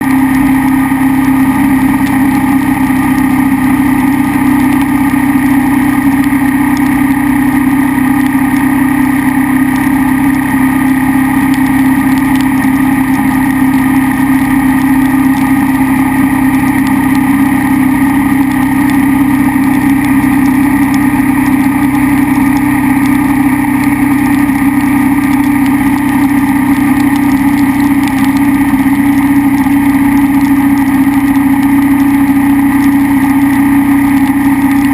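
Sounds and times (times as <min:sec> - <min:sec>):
motorcycle engine running steadily: 0:00.0 - 0:34.9.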